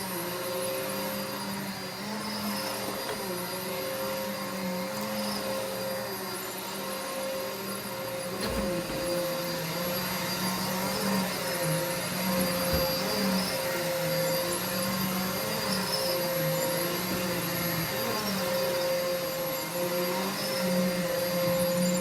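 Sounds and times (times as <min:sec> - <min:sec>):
vacuum cleaner running on carpet: 0:00.0 - 0:22.0.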